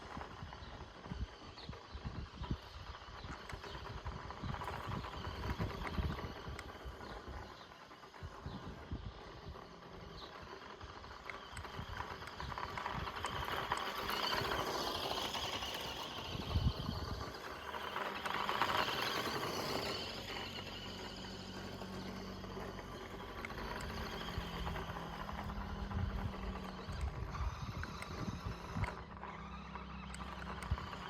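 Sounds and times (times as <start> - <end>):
small electric motor whining: 0.0 - 31.0
tyres crackling on grit: 0.0 - 31.0.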